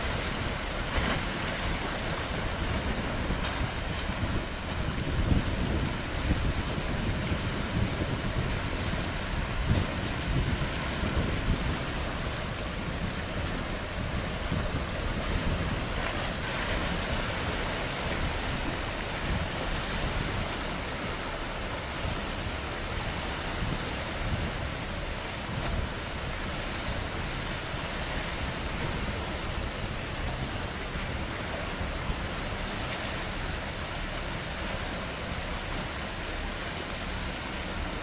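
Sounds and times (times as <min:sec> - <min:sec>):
steady wind: 0:00.0 - 0:38.0
water noise: 0:00.0 - 0:38.0
wind gusting against microphone: 0:00.0 - 0:38.0.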